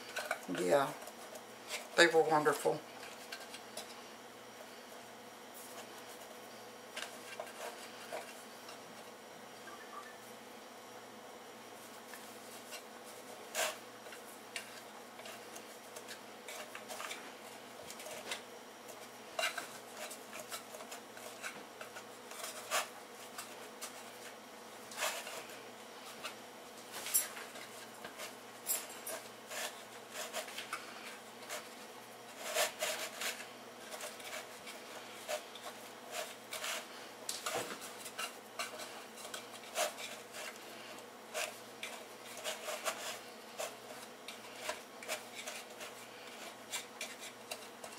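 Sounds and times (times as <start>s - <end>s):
dough rubbing: 0.0s - 10.2s, 11.7s - 47.9s.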